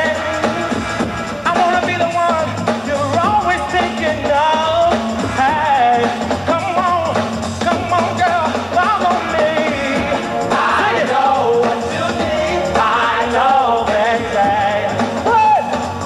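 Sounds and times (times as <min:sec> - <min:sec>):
bass line: 0:00.0 - 0:16.0
drums: 0:00.0 - 0:16.0
live band playing: 0:00.0 - 0:16.0
person singing: 0:01.5 - 0:15.9.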